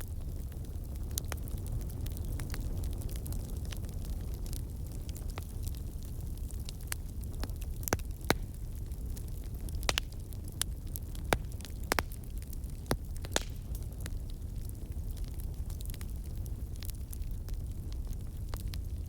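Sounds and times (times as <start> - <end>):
burning wood popping and snapping: 0.0 - 19.0
flames rumbling: 0.0 - 19.0.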